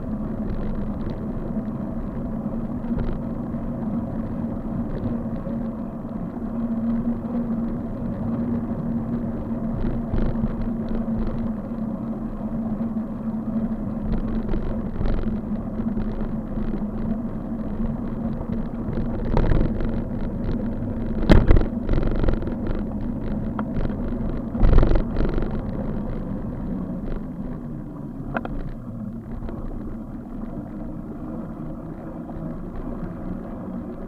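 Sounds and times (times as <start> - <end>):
bike riding hum on road: 0.0 - 34.0
wind: 0.0 - 34.0.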